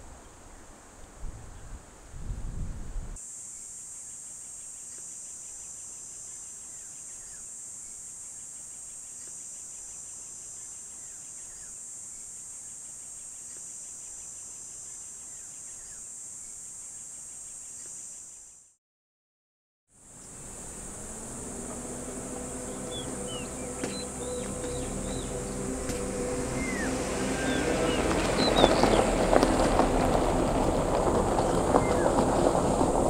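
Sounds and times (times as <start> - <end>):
insects droning: 3.2 - 18.7, 20.0 - 33.0.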